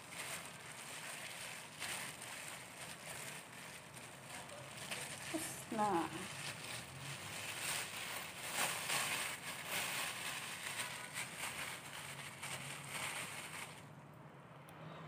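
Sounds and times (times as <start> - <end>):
plastic glove and bag crinkling: 0.0 - 14.0.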